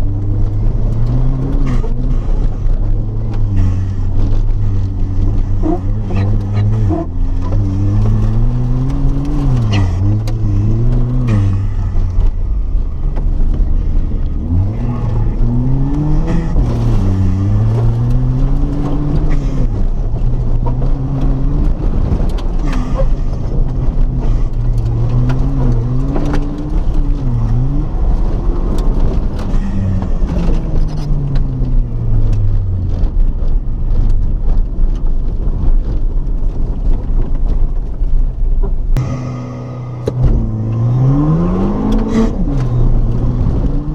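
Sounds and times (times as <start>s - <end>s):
car engine revving: 0.0s - 35.4s, 39.0s - 43.9s
road and gravel noise: 0.0s - 43.9s.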